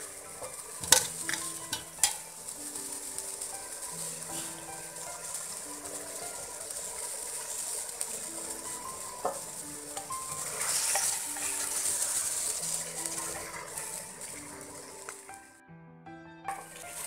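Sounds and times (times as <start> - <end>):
frying sizzle: 0.0 - 15.6, 16.5 - 17.0.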